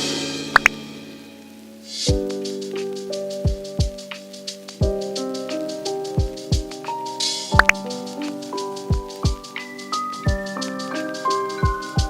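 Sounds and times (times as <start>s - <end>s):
soft keyboard melody: 0.0s - 12.0s
kick drum and hi-hat beat: 1.9s - 12.0s.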